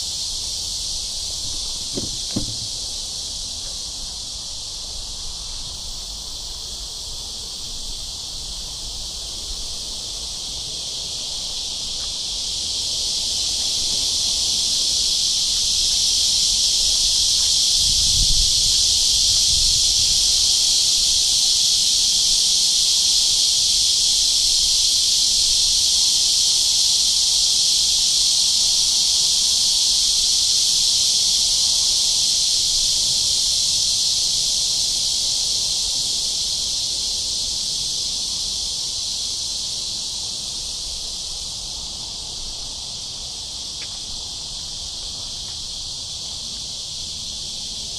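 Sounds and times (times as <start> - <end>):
cicadas buzzing: 0.0 - 47.9.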